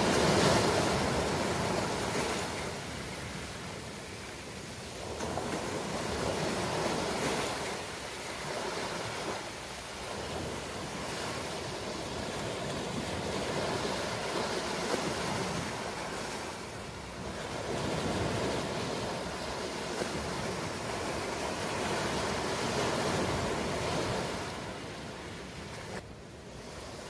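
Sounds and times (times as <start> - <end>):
ocean waves breaking on shore: 0.0 - 27.0.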